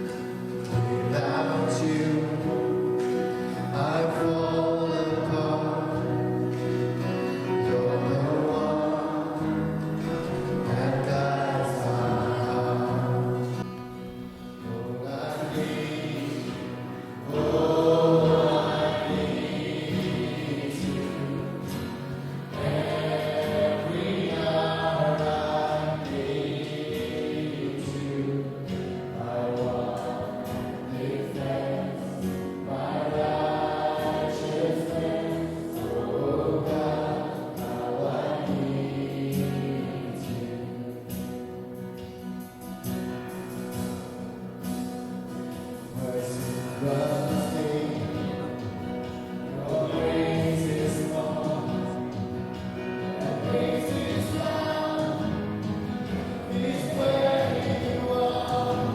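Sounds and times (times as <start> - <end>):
choir singing worship song: 0.0 - 58.9
musical accompaniment: 0.0 - 58.9.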